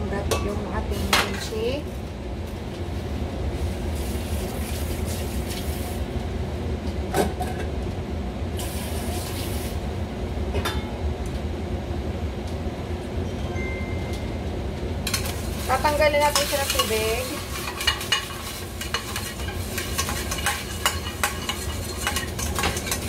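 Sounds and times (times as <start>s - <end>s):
gas burner rumble and hiss: 0.0s - 23.0s.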